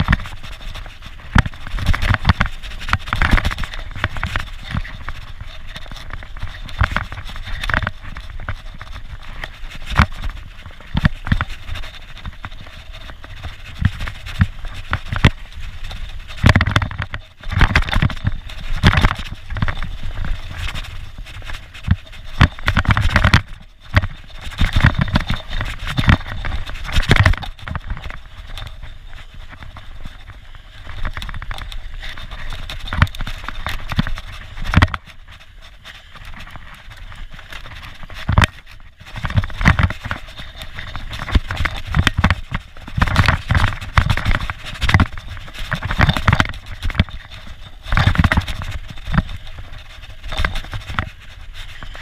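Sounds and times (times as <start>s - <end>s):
bike tyres crunching on dirt: 0.0s - 52.0s.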